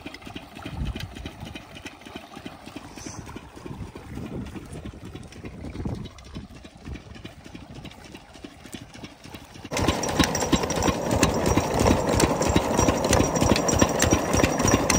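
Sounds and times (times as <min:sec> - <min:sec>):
diesel engine chugging: 0:00.0 - 0:14.9
flat belt and pump clatter: 0:00.0 - 0:14.9.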